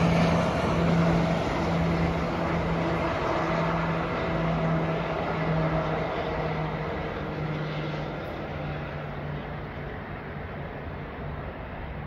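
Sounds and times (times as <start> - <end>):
passing train rumble: 0.0 - 12.0.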